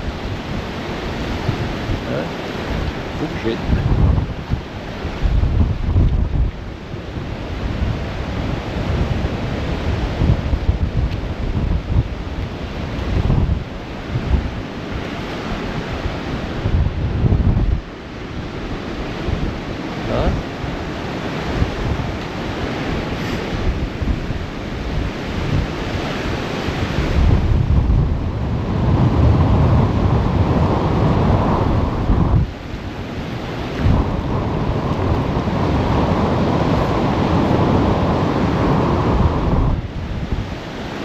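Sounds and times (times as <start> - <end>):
surf breaking on beach: 0.0 - 41.0
wind buffeting microphone: 0.0 - 41.0.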